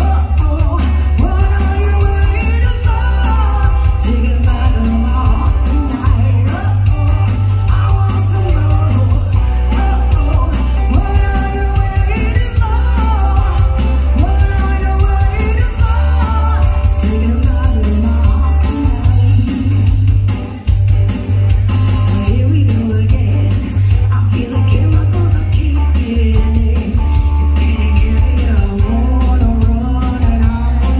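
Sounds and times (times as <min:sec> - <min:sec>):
woman singing lead: 0:00.0 - 0:20.8, 0:21.9 - 0:30.9
drum kit beat: 0:00.0 - 0:30.9
electric bass: 0:00.0 - 0:30.9
electric guitars: 0:00.0 - 0:30.9.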